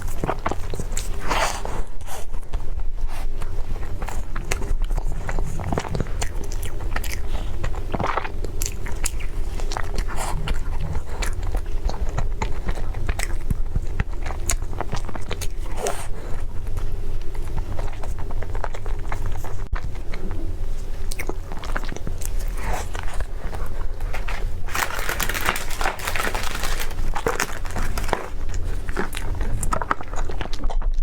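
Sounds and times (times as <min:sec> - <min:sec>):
crisp crunches of food: 0:00.0 - 0:02.3, 0:03.1 - 0:31.0
person biting and chewing food: 0:00.0 - 0:31.0
steady low hum: 0:00.0 - 0:31.0.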